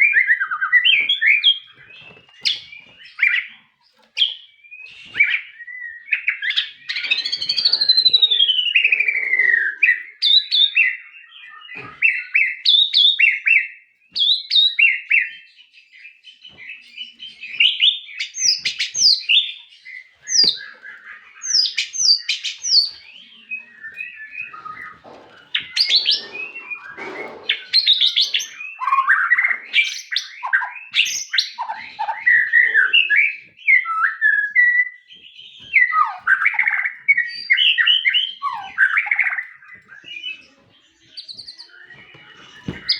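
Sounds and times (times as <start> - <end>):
songbird singing whistled phrases: 4.2 - 42.9.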